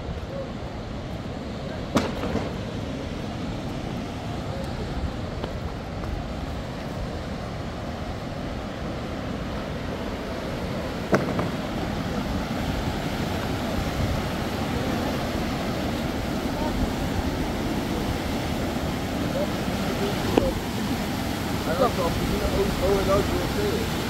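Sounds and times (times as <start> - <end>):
outdoor rushing noise: 0.0 - 24.0.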